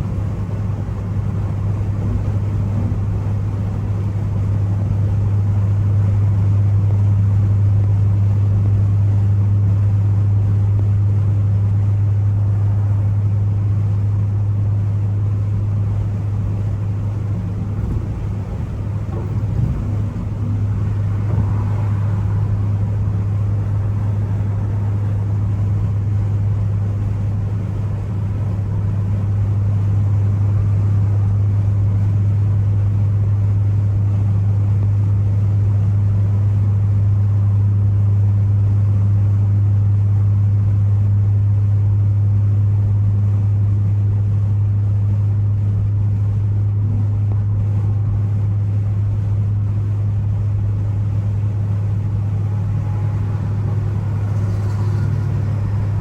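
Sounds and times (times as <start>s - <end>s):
car engine droning: 0.0s - 38.1s, 45.2s - 56.0s.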